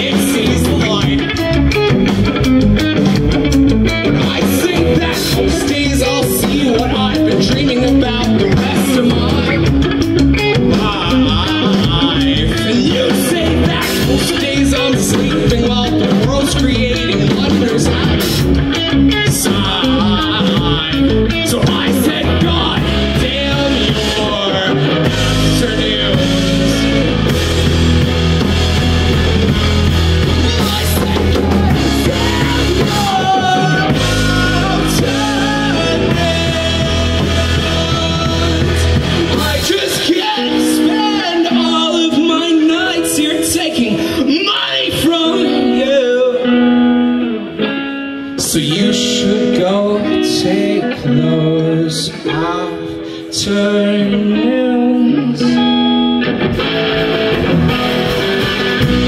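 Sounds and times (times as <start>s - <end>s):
drum kit: 0.0s - 46.0s, 55.6s - 59.0s
bass guitar: 0.0s - 59.0s
electric guitar: 0.0s - 59.0s
keyboard: 0.0s - 59.0s.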